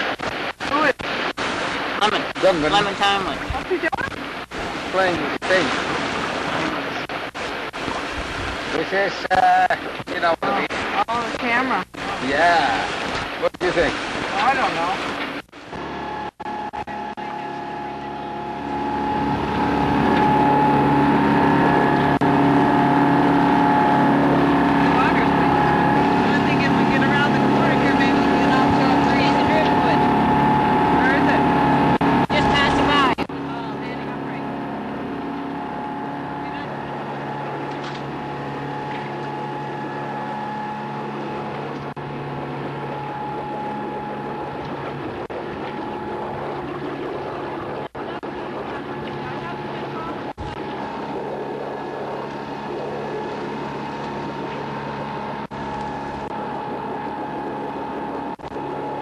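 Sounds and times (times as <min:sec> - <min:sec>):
boat engine running: 0:00.0 - 0:59.0
steady hum: 0:00.0 - 0:59.0.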